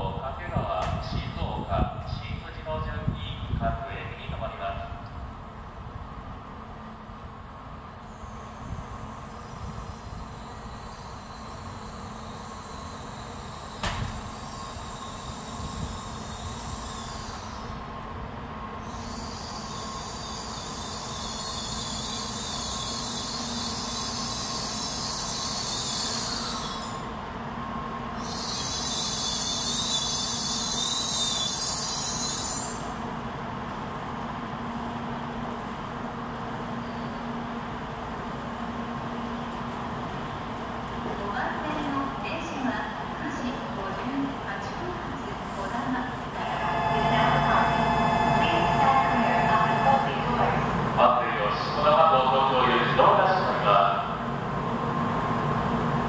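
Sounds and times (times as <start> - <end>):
train rumbling to a stop: 0.0 - 56.0.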